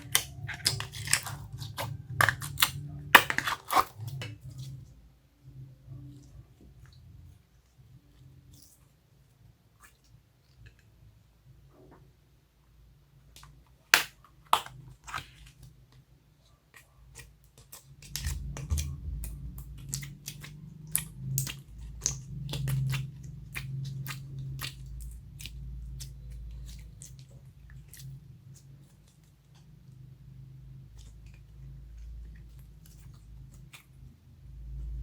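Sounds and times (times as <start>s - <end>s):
low slime squishing: 0.0s - 11.0s, 14.1s - 35.0s.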